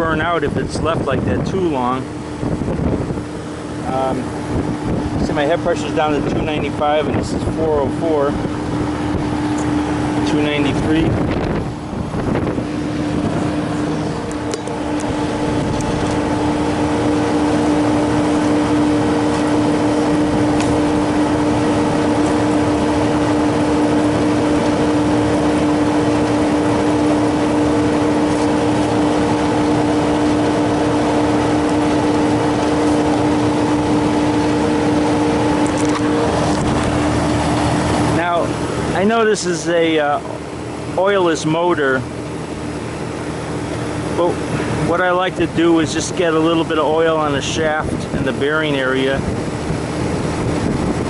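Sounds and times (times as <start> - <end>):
condensing unit humming: 0.0 - 51.0.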